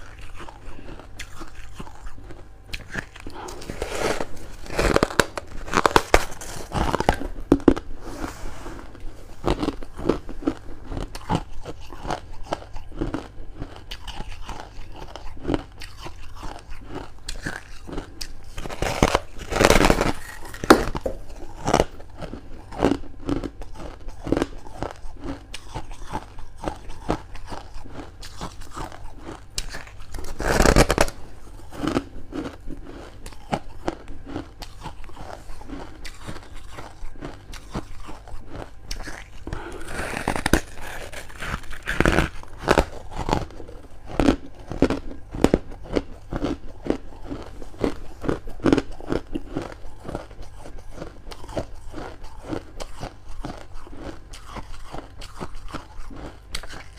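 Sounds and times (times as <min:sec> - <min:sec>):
crunchy chewing of frost: 0:00.0 - 0:56.9.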